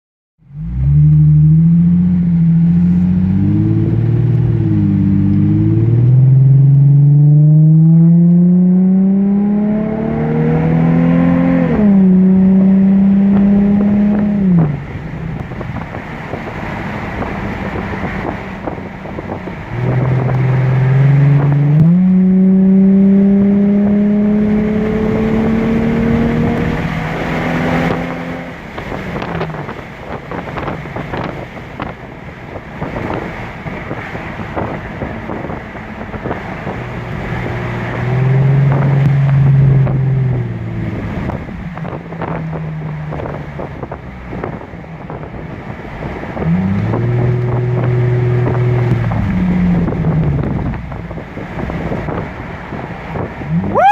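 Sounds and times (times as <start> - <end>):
car engine accelerating: 0.4 - 53.9
wind buffeting microphone: 1.7 - 53.9.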